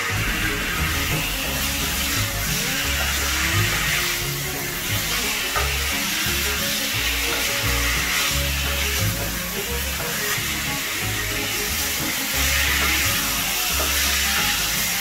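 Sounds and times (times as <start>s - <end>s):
background music: 0.0s - 15.0s
chicken sizzling in a pan: 0.0s - 15.0s
spatula stirring: 0.0s - 15.0s.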